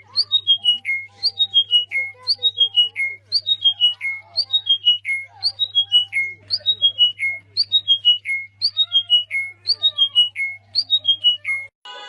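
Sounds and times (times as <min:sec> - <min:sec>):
faint bird chirps: 0:00.0 - 0:11.7.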